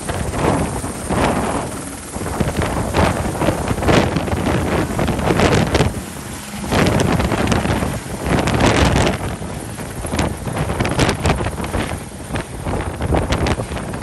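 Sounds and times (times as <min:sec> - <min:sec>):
helicopter climbing away: 0:00.0 - 0:14.0
rotor downwash buffeting microphone: 0:00.0 - 0:14.0.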